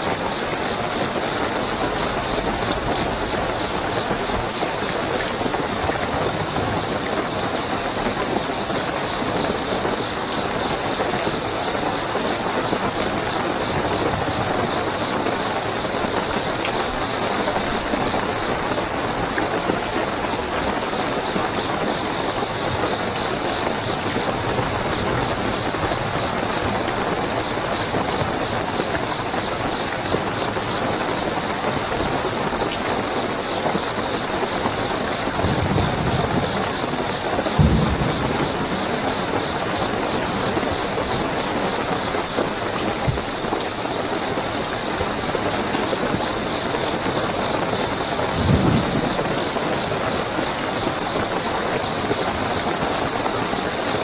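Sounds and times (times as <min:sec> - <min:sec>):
cricket trill: 0:00.0 - 0:54.0
heavy rain: 0:00.0 - 0:54.0.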